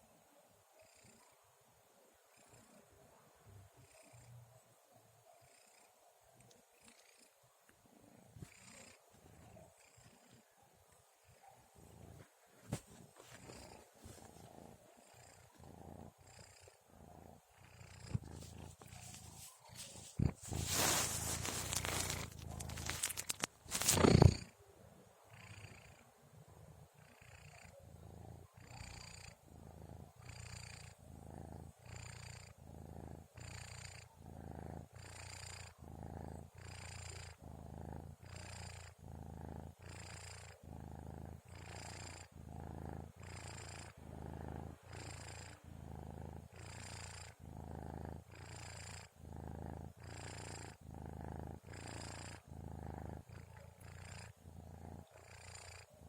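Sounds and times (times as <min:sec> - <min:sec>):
kitten snoring and purring: 0:00.8 - 0:01.4, 0:02.3 - 0:04.6, 0:05.4 - 0:10.6, 0:11.2 - 0:24.6, 0:25.3 - 0:56.0.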